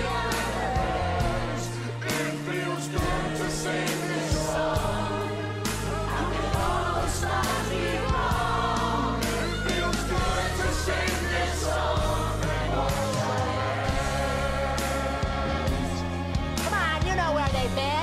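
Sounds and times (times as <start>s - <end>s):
voices singing in chorus: 0.0s - 16.6s
pop band playing: 0.0s - 18.0s.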